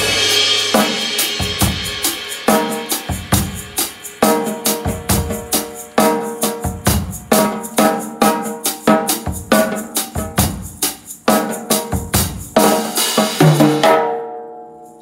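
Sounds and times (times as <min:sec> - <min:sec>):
maracas shaking: 0:00.0 - 0:13.9
drum kit groove: 0:00.0 - 0:14.1.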